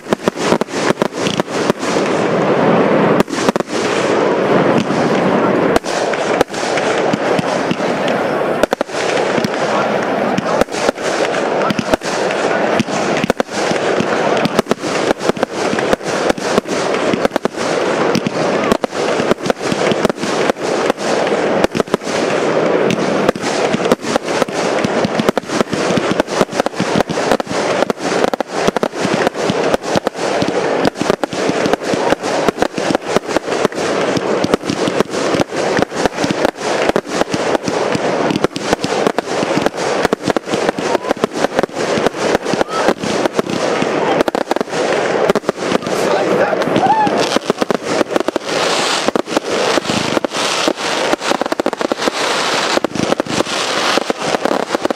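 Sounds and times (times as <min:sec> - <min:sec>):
fireworks bangs and crackling pops: 0:00.0 - 0:54.9
steady hiss: 0:00.0 - 0:54.9.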